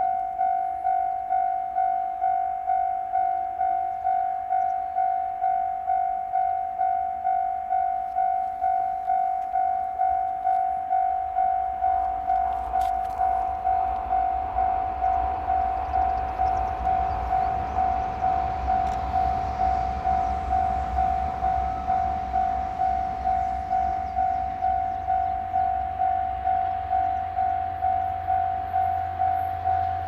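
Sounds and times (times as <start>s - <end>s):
passing train rumble: 0.0s - 30.0s.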